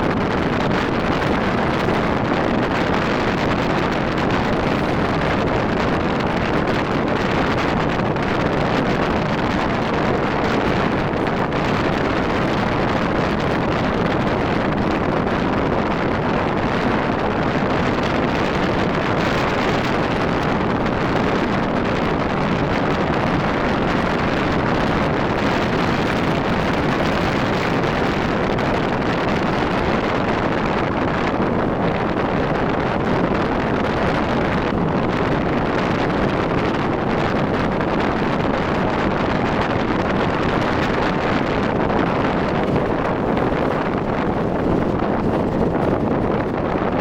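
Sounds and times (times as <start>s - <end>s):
motorcycle engine and road noise: 0.0s - 47.0s
wind rushing over microphone: 0.0s - 47.0s.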